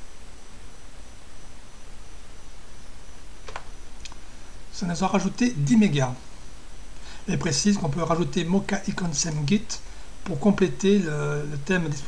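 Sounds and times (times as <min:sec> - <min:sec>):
faint high-pitched whine: 0:00.0 - 0:12.0
steady background hiss: 0:00.0 - 0:12.0.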